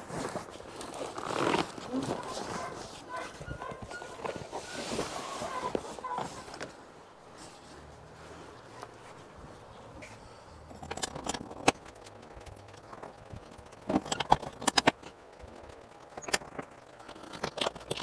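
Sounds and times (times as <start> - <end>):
frame hardware clicking and rattling: 0.0 - 18.0.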